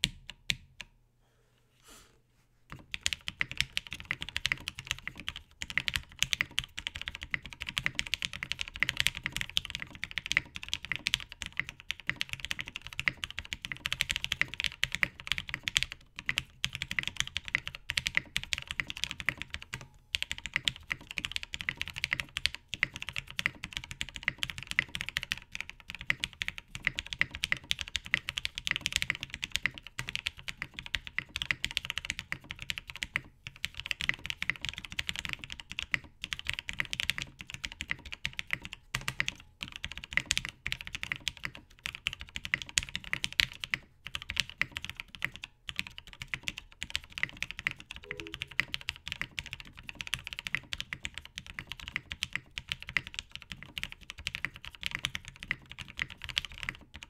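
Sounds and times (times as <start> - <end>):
fast typing on mechanical keyboard: 2.7 - 57.0.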